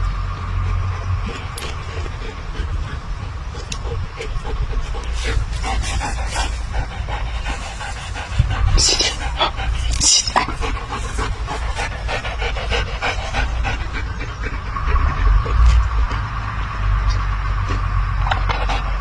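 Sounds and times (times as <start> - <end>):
dog panting: 0.6 - 16.7.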